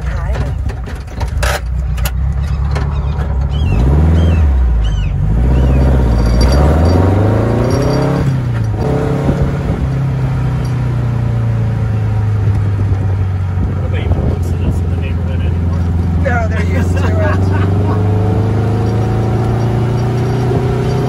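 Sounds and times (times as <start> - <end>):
dune buggy engine accelerating: 0.0 - 21.0.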